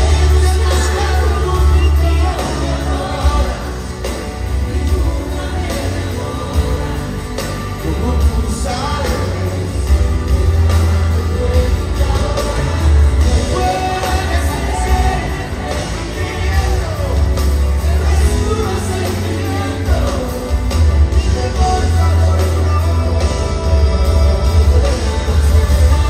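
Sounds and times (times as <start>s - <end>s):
acoustic guitar: 0.0s - 26.0s
drums and percussion: 0.0s - 26.0s
heavy bass: 0.0s - 26.0s
keyboards: 0.0s - 26.0s
man singing lead vocal: 0.0s - 26.0s.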